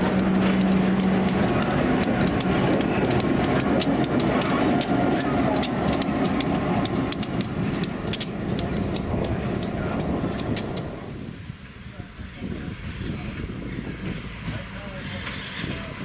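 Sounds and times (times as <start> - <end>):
diesel locomotive rumble: 0.0 - 16.0
train rattling over rails: 0.0 - 16.0.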